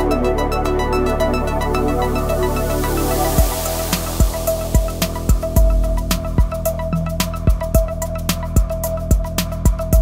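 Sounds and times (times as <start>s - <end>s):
electronic background music: 0.0s - 10.0s
sustained bass notes: 0.5s - 9.4s.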